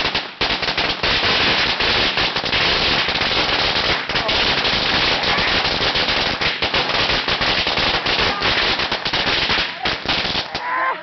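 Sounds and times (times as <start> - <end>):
firecrackers going off: 0.0 - 10.7.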